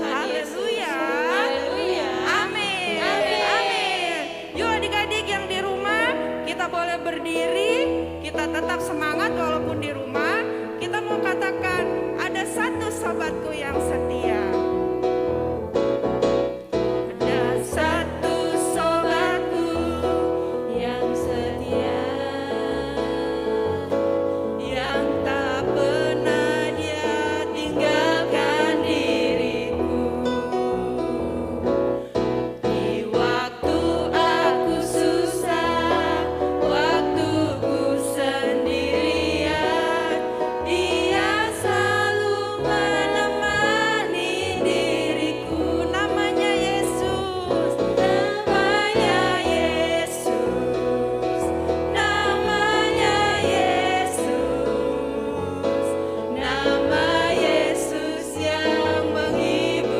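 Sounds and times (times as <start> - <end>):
voices singing: 0.0 - 9.2, 17.2 - 59.9
keyboard accompaniment: 0.0 - 59.9.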